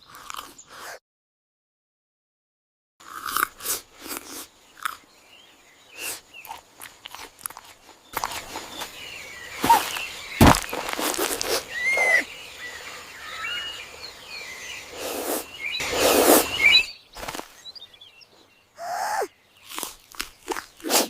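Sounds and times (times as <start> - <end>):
birds chirping: 3.5 - 21.0.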